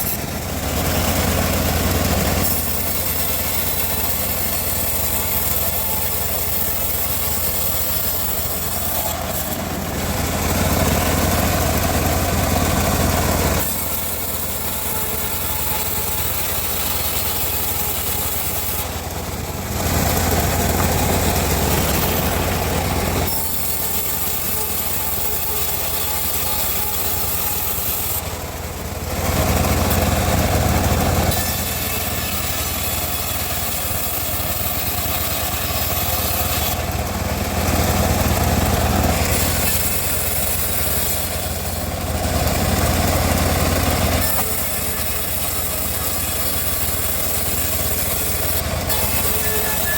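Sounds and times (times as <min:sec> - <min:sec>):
bandsaw mill sawing log: 0:00.0 - 0:49.9.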